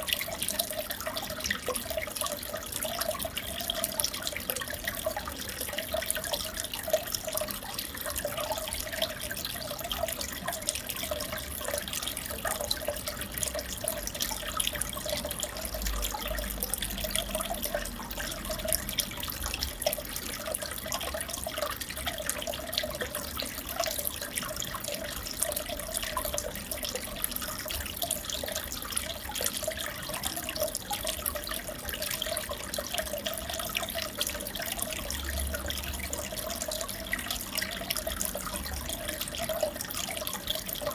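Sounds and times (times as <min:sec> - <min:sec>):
aquarium water trickling and bubbling: 0:00.0 - 0:40.9
small drips: 0:00.0 - 0:40.9.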